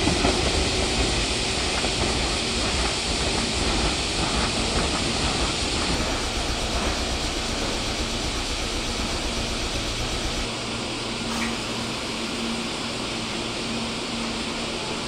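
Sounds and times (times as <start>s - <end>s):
electric train rumble and hiss: 0.0s - 15.0s.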